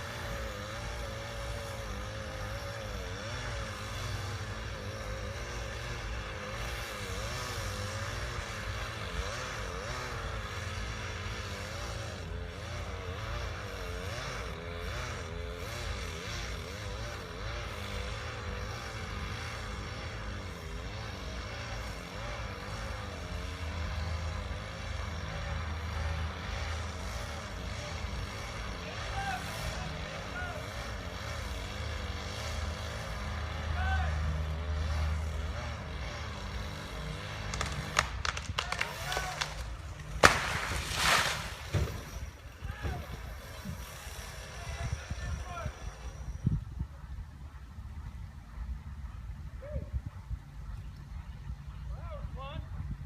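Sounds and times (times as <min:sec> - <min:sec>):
low engine drone: 0:00.0 - 0:53.0.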